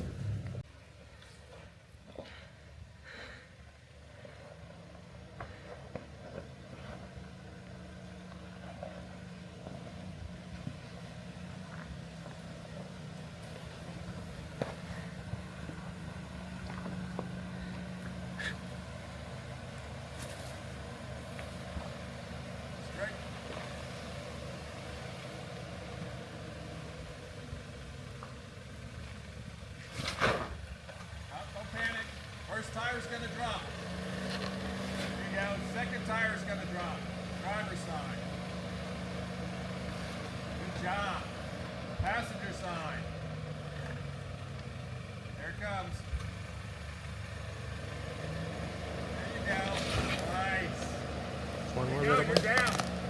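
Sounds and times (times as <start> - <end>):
vehicle engine running at low revs: 0.0 - 53.0.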